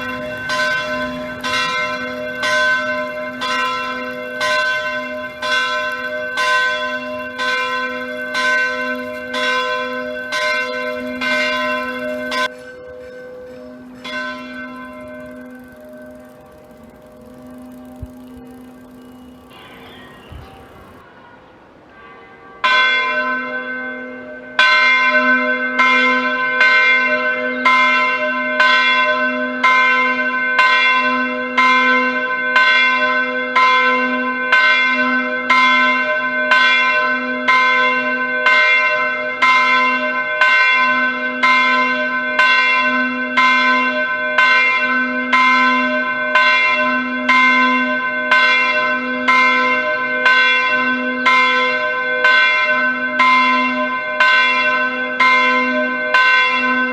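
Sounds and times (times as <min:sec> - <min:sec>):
church bell ringing: 0:00.0 - 0:56.9.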